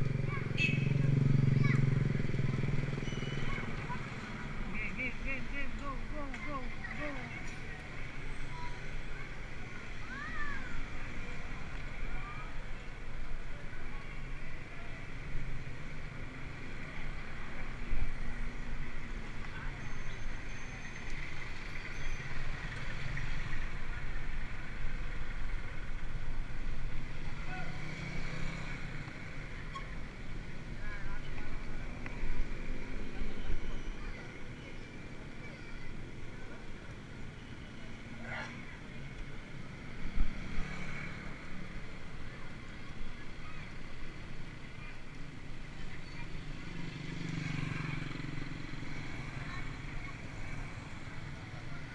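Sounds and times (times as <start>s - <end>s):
low rumble of bicycle ride: 0.0s - 51.9s.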